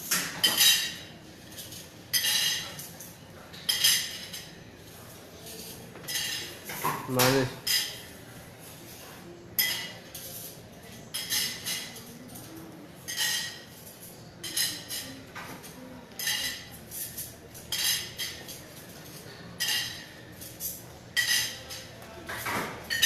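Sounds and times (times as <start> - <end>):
metal utensils clinking: 0.0 - 8.1, 9.6 - 23.0.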